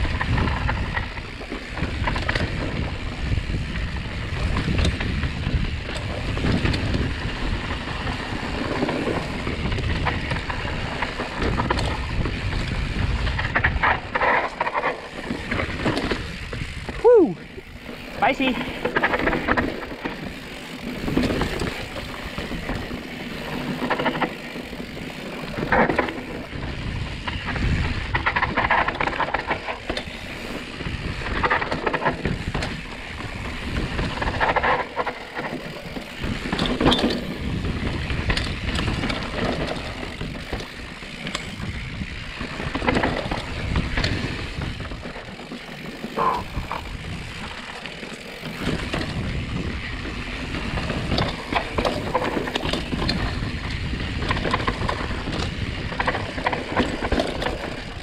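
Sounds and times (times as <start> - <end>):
bike knocks and rattles: 0.0 - 58.0
bike tyres rolling over dirt: 0.0 - 58.0.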